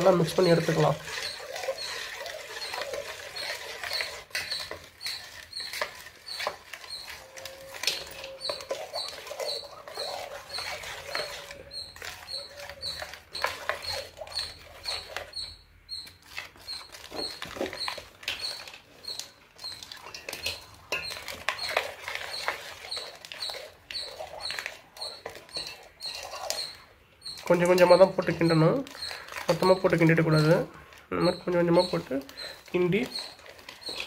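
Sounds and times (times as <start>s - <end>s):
spoon scraping in a pan: 0.0s - 34.0s.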